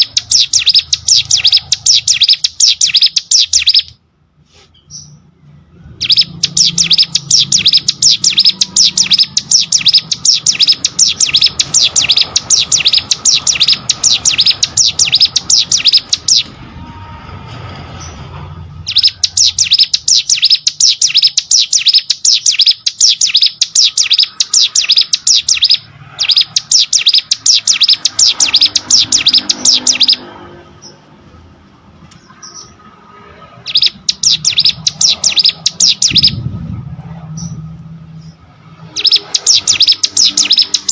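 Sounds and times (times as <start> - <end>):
bird singing rapid trill: 0.0 - 4.0, 4.8 - 16.7, 18.8 - 31.0, 32.2 - 36.6, 37.2 - 40.9.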